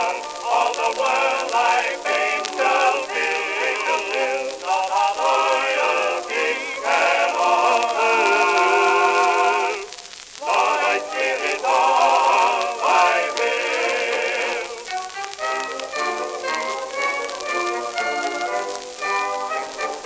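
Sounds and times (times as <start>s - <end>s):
old record popular song: 0.0s - 20.0s.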